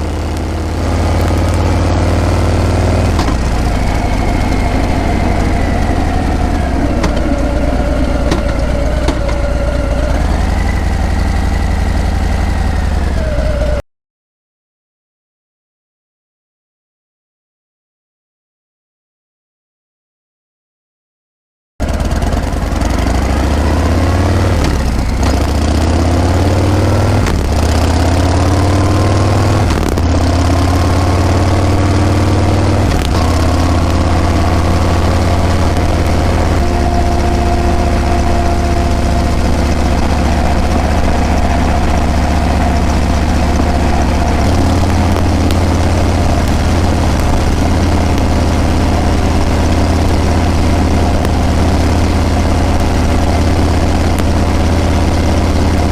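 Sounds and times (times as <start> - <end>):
motorcycle engine accelerating: 0.0 - 13.8, 21.8 - 55.9.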